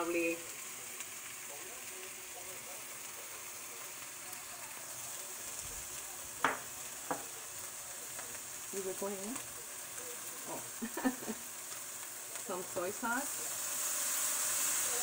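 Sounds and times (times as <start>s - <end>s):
shrimp sizzling in a wok: 0.0s - 15.0s.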